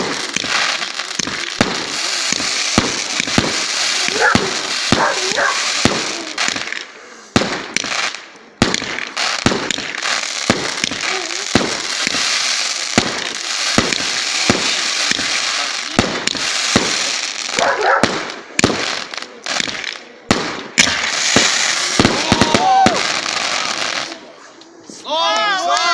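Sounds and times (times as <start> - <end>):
fireworks bangs: 0.0 - 25.9
fireworks crackling: 0.0 - 25.9.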